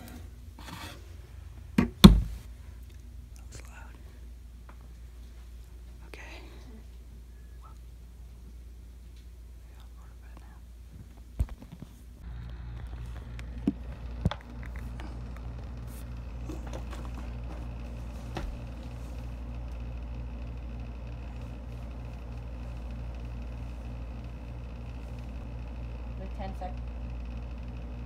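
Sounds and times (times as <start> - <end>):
low hum with pulse: 0.0 - 28.0.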